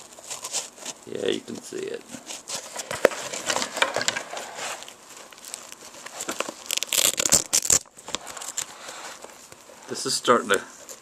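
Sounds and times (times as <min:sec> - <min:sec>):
nylon bag rustling and crinkling: 0:00.0 - 0:11.0.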